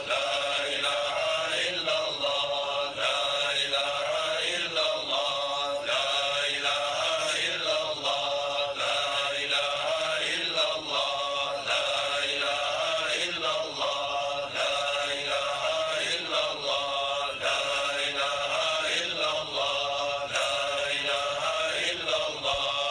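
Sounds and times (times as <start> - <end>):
men chanting: 0.0 - 22.9.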